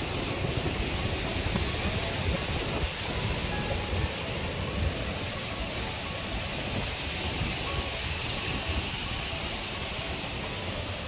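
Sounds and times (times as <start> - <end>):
waterfall rushing: 0.0 - 11.0
wind gusting on microphone: 0.0 - 11.0.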